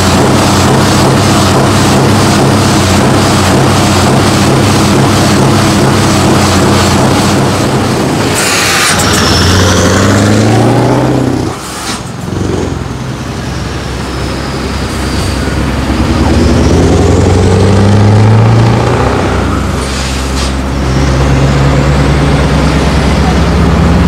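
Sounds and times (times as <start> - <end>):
diesel truck engine revving: 0.0 - 24.0.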